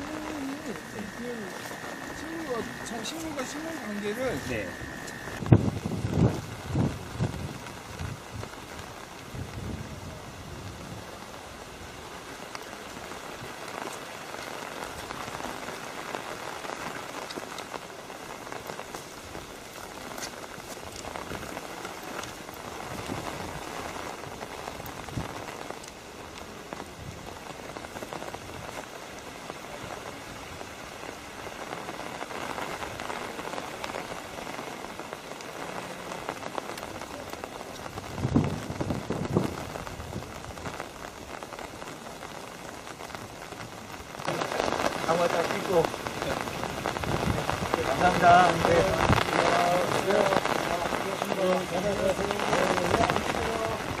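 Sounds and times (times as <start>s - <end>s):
light rain patter: 0.0s - 54.0s.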